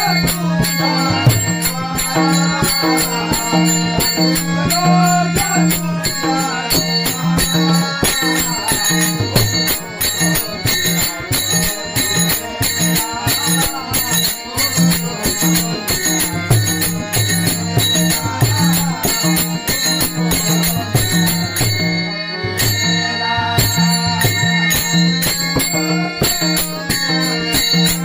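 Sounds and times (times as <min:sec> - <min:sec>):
hand cymbals striking: 0:00.0 - 0:28.0
wandering melody: 0:00.0 - 0:28.0.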